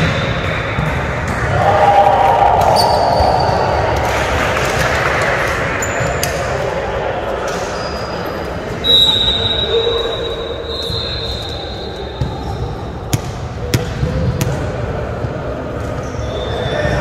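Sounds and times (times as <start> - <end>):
echoing sports hall hubbub: 0.0 - 17.0.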